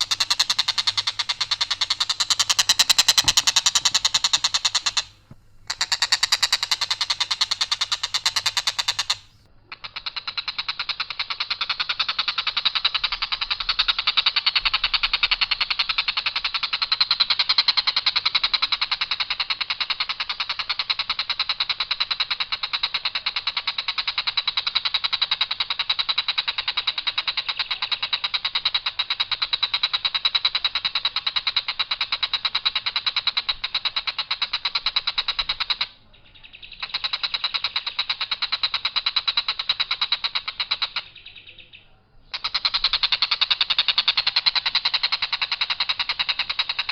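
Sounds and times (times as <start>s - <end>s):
kingfisher rattling call: 0.0s - 46.9s.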